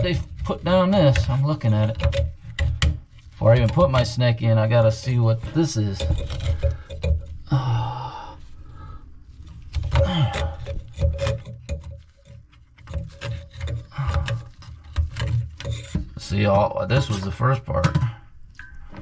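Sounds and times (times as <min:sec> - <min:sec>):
scraping and rubbing in drain pipe: 0:00.0 - 0:07.5, 0:08.4 - 0:18.2.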